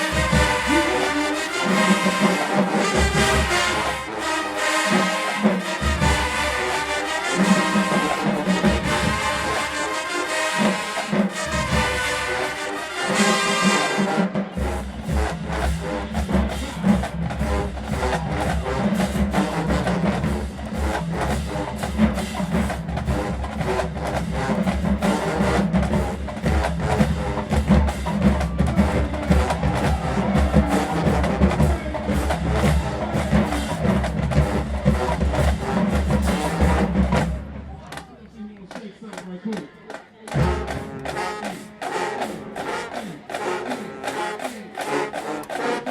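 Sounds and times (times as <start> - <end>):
rapid snare drum strokes: 0.0 - 38.1, 38.7 - 45.9.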